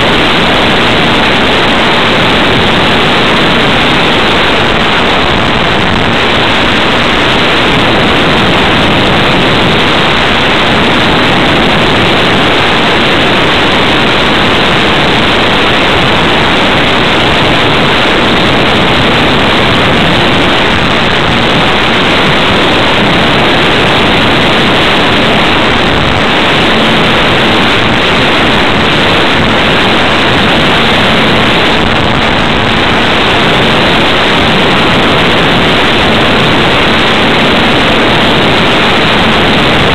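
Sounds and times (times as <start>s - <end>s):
electric motor and propeller: 0.0s - 39.9s
wind over microphone: 0.0s - 39.9s.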